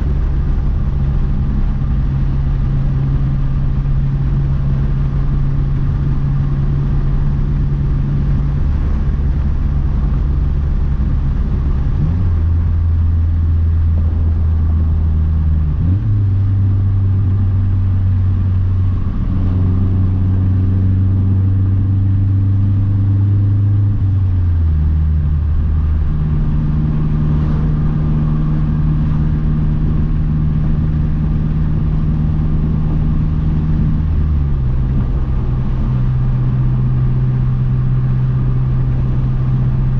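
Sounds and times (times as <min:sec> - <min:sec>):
car engine droning at cruise: 0:00.0 - 0:39.9.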